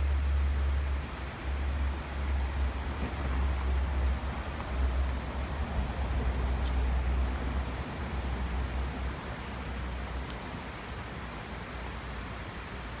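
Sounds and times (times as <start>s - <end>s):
campfire crackles: 0.0s - 13.0s.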